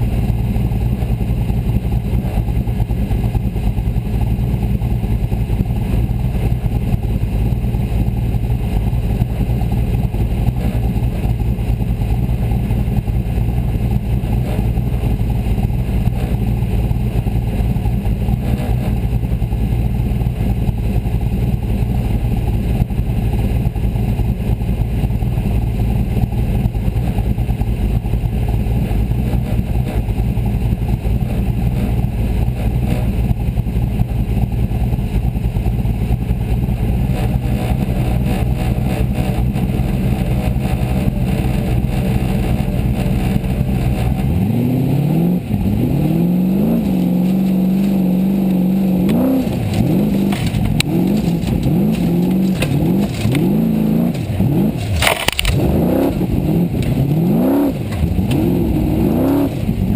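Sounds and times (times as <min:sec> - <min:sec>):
buggy engine idling and revving: 0:00.0 - 0:59.9.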